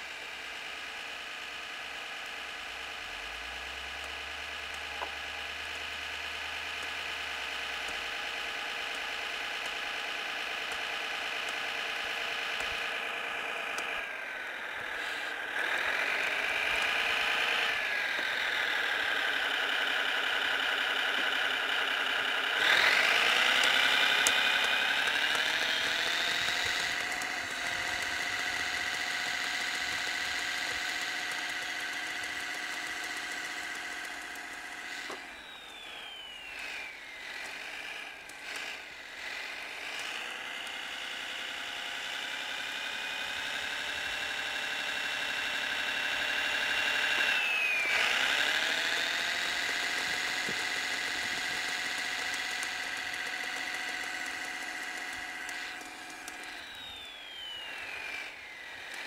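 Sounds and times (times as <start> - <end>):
engine whine: 0.0 - 59.0
simulated diesel engine revving: 0.0 - 59.0.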